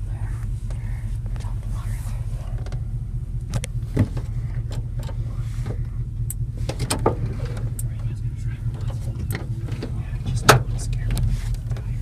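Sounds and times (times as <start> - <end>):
engine and road noise drone: 0.0 - 12.0.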